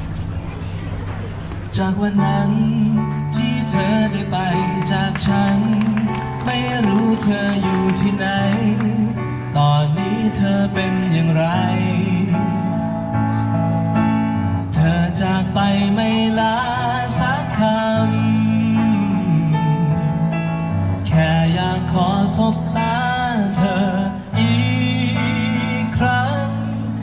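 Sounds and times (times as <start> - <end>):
bass line: 0.0 - 27.0
guitar: 0.0 - 27.0
person singing: 1.6 - 27.0.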